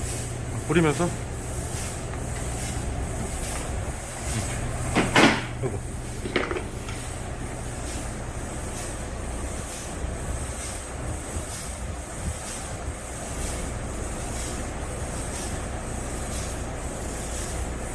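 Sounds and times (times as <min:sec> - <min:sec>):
regular hissing spray pulse: 0:00.0 - 0:17.9.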